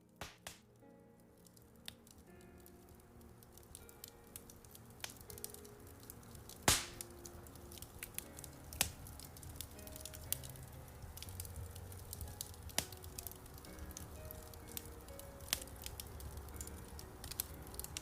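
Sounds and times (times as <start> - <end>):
fire popping: 0.0 - 18.0
relaxing piano music: 0.0 - 18.0
wood fire crackling: 0.0 - 18.0.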